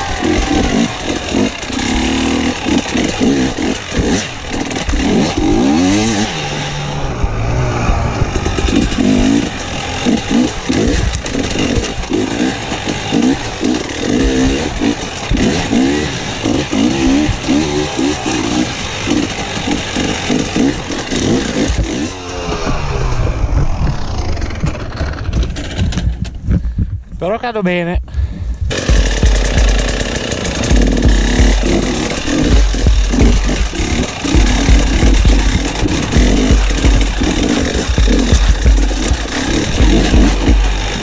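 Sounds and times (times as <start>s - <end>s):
motorcycle engine revving: 0.0s - 26.4s, 28.7s - 41.0s.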